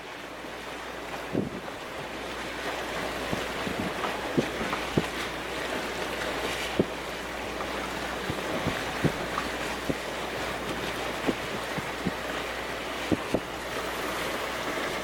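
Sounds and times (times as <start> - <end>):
choppy water washing: 0.0 - 15.0.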